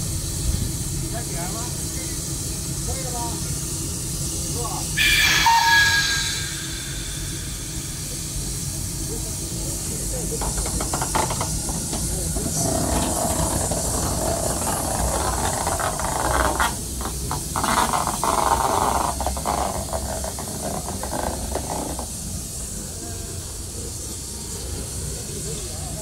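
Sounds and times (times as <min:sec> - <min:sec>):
steam hiss: 0:00.0 - 0:26.0
steam locomotive exhaust beats: 0:00.0 - 0:26.0.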